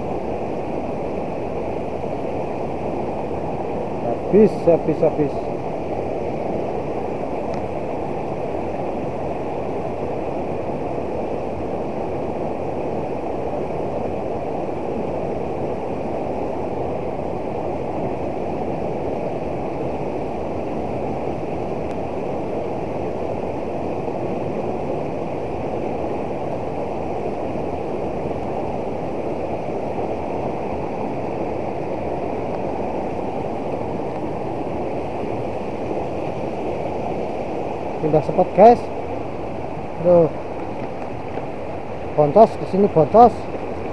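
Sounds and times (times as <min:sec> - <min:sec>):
river pouring over a weir: 0:00.0 - 0:43.9.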